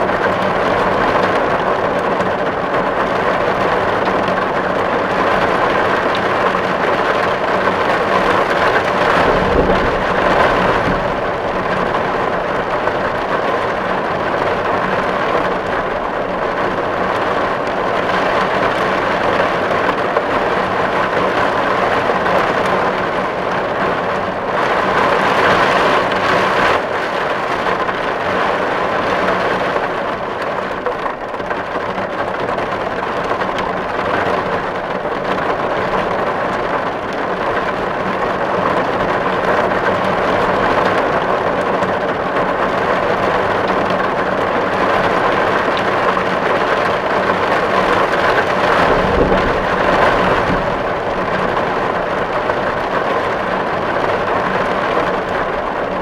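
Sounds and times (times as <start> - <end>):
rain drumming on a tin roof: 0.0 - 56.0.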